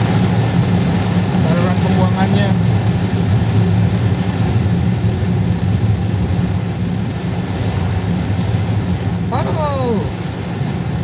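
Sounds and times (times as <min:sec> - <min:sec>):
car engine rumble: 0:00.0 - 0:11.0
heavy rain hissing on car: 0:00.0 - 0:11.0
tyres on wet road: 0:00.0 - 0:11.0.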